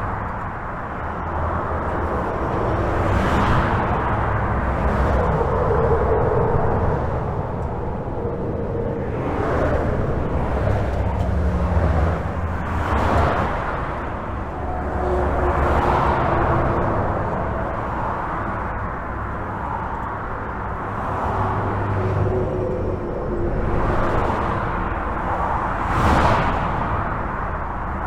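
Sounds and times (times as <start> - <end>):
highway traffic rumble: 0.0 - 28.0.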